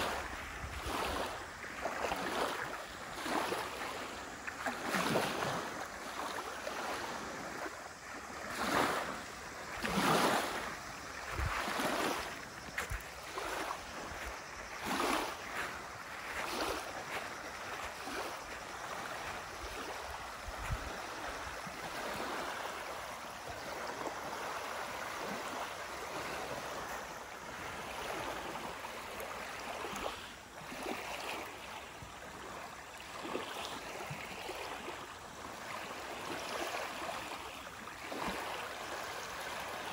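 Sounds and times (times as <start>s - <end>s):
waves lapping on gravel shore: 0.0s - 39.9s.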